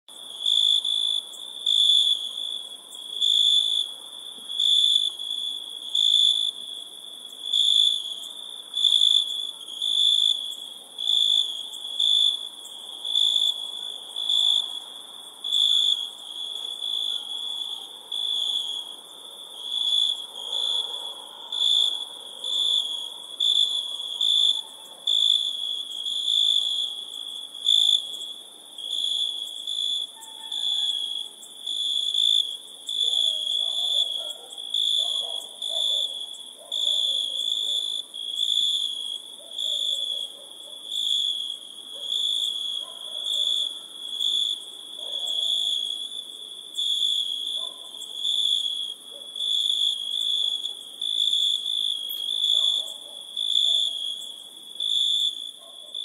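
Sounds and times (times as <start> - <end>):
crickets chirping: 0.1 - 56.0.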